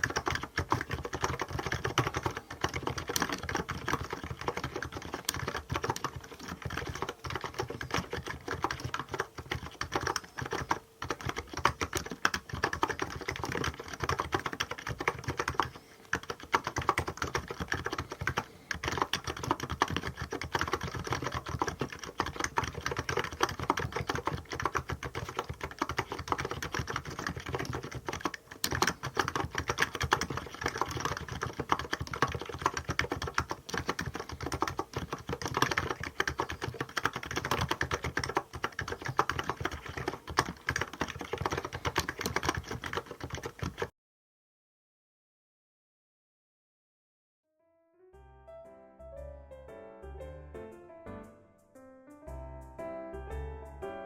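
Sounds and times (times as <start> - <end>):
fast keyboard typing: 0.0 - 43.9.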